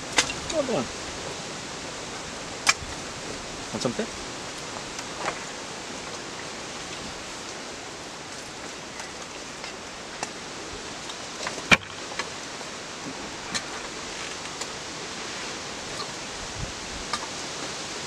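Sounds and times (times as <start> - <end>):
wind in leaves: 0.0 - 18.0.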